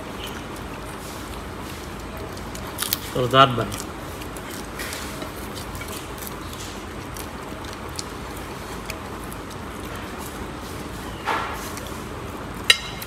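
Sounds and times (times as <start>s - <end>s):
chewing: 0.0s - 13.0s
hands and food on plates: 0.0s - 13.0s
steady background hum: 0.0s - 13.0s.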